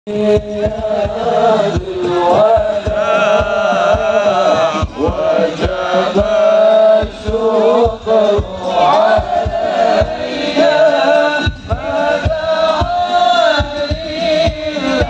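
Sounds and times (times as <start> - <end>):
frame drums beating: 0.1 - 15.0
voices chanting devotional song: 0.1 - 15.0.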